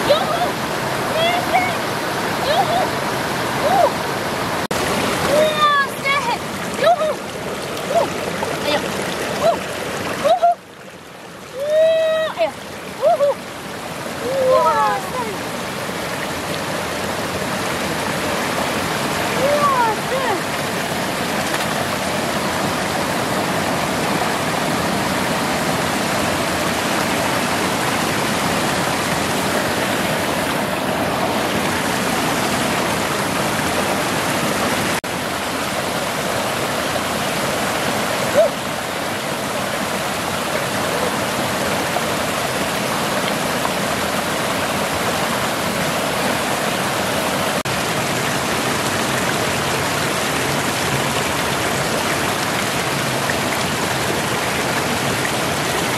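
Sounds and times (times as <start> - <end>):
stream pouring over rocks: 0.0 - 55.9.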